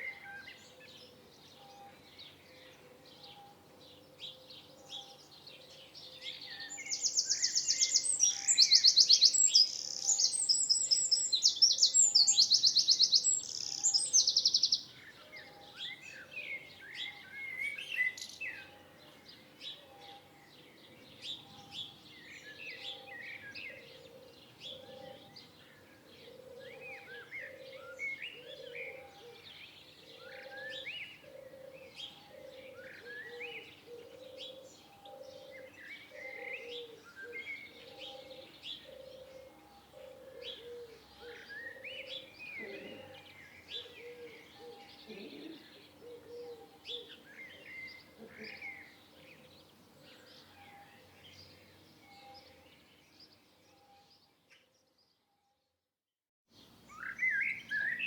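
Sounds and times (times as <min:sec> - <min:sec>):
songbirds chirping and whistling: 0:00.0 - 0:55.3, 0:56.6 - 0:58.0.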